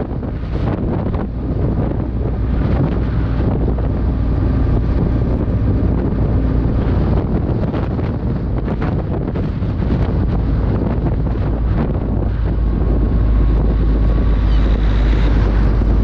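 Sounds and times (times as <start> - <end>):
car road and engine noise: 0.0 - 16.0
wind buffeting microphone: 0.0 - 16.0.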